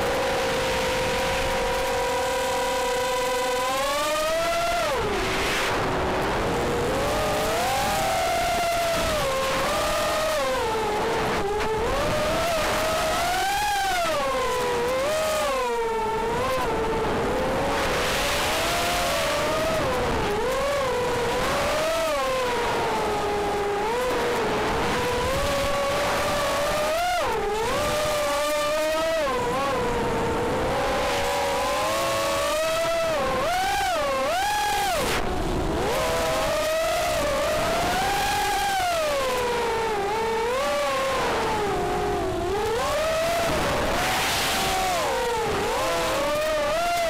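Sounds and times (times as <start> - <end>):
drone motors whining: 0.0 - 47.0.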